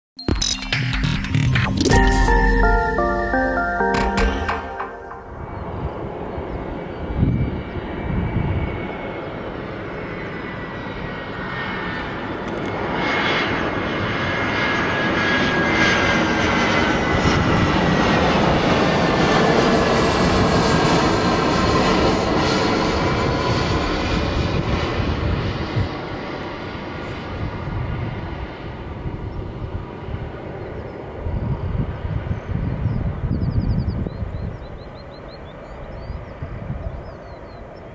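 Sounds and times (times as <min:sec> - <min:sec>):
jet engine whine and rumble: 0:05.3 - 0:37.9.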